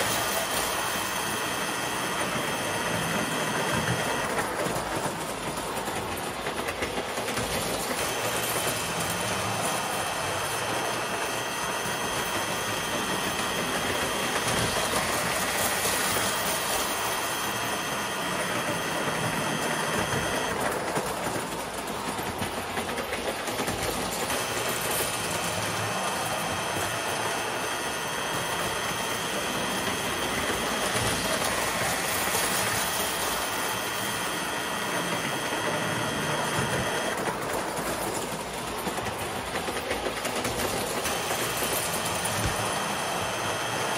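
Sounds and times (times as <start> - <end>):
toy train motor and wheels whirring: 0.0 - 43.9.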